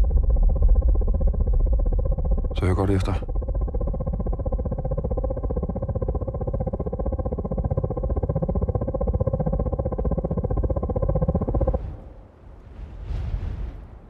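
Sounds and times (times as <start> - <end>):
loud low buzzing drone: 0.0 - 12.3.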